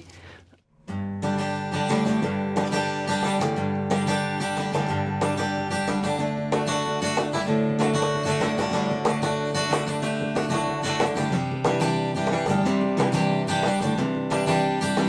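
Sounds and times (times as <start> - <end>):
country acoustic guitar music: 0.9 - 15.0.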